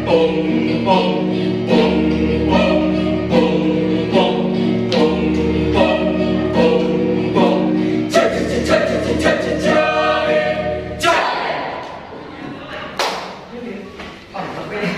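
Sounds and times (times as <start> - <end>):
group singing in chorus: 0.0 - 12.1
music: 0.0 - 12.1.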